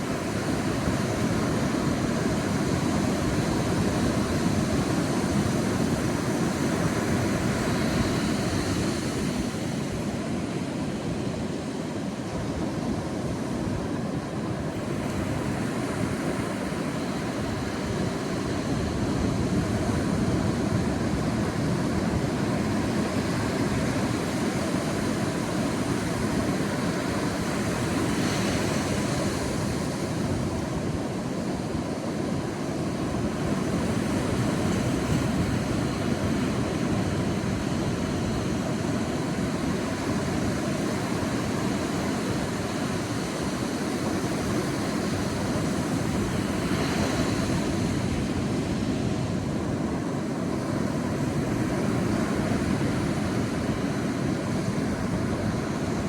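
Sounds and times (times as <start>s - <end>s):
sea surf washing onto beach: 0.0s - 56.0s
waves breaking: 0.0s - 56.0s.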